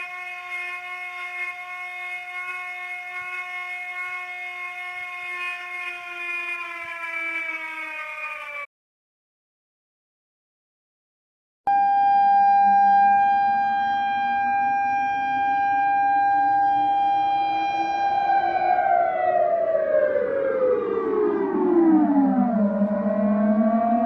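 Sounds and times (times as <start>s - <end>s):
reversed air-raid siren wail: 0.0s - 8.7s, 11.7s - 24.0s.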